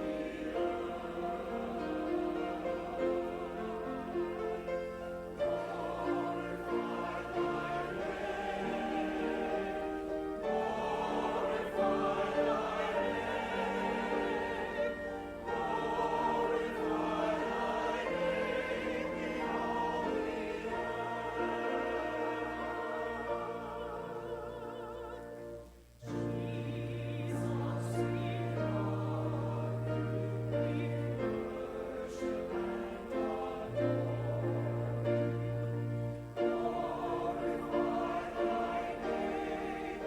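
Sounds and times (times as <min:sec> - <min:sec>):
choir singing sacred music: 0:00.0 - 0:40.0.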